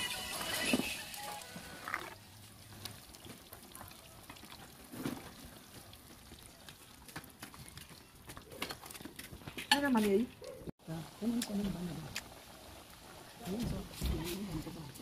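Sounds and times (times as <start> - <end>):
fish deep-frying in oil: 0.0 - 8.6, 10.9 - 15.0.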